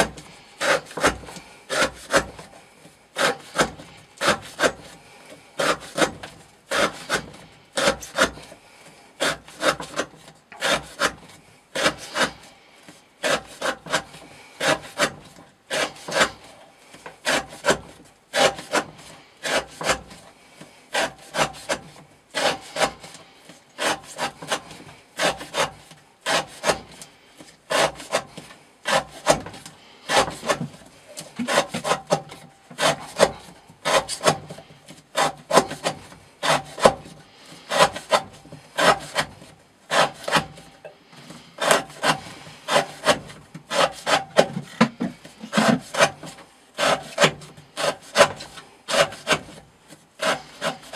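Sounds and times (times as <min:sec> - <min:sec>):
knife slicing through rope: 0:03.2 - 0:05.0, 0:05.6 - 0:08.6, 0:09.2 - 0:12.5, 0:13.2 - 0:16.5, 0:17.2 - 0:20.2, 0:20.9 - 0:23.2, 0:23.8 - 0:27.0, 0:27.7 - 0:40.7, 0:41.6 - 0:44.6, 0:45.3 - 0:49.6, 0:50.2 - 0:50.9.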